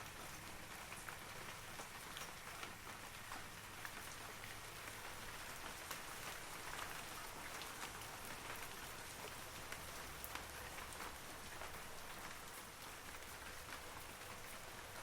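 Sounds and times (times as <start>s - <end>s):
rain on forest trees: 0.0s - 15.0s.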